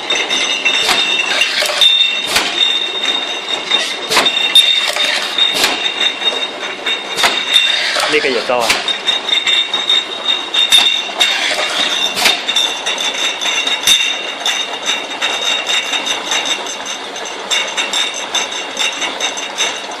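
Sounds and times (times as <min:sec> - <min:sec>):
glass bottles clinking: 0:00.0 - 0:20.0.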